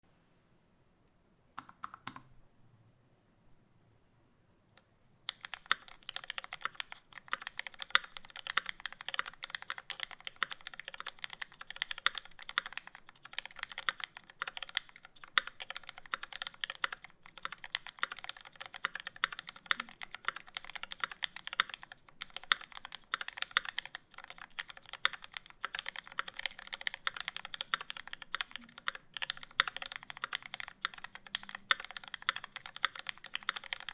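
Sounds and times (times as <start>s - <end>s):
mechanical keyboard typing: 1.6s - 2.3s, 5.3s - 33.9s.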